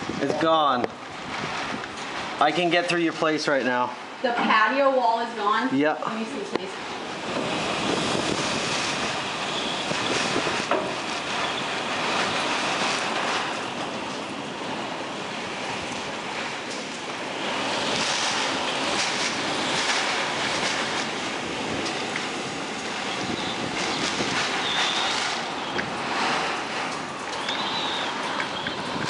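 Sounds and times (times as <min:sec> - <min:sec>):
hurricane wind and rain: 0:00.0 - 0:29.0.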